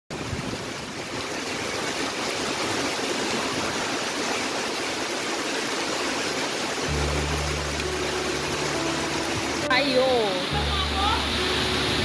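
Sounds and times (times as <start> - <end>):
heavy rain hissing: 0.1 - 12.0.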